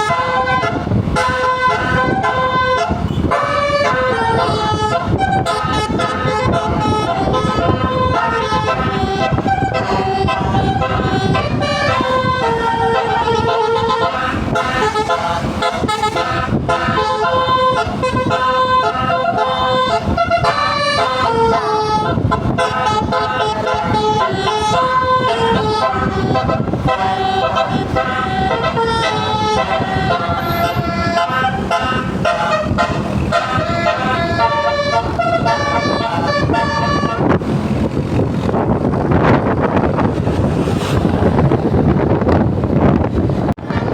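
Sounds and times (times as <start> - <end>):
musical bus horn playing a tune: 0.0 - 41.5, 43.6 - 43.9.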